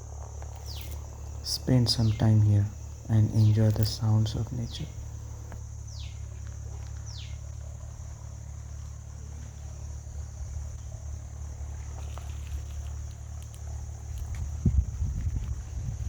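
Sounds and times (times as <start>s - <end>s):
insects droning: 0.0s - 16.0s
low rumble: 0.0s - 16.0s.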